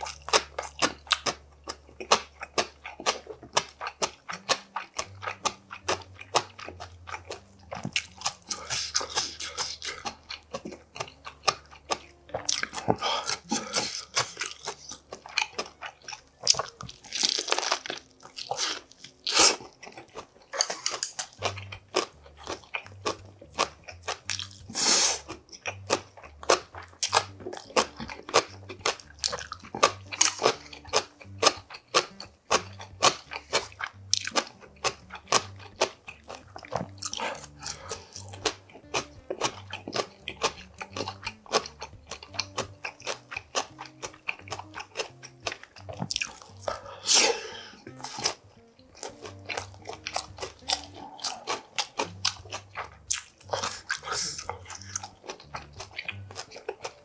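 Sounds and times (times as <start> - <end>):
close chewing and biting food: 0.0 - 57.0
faint background music: 0.0 - 57.0.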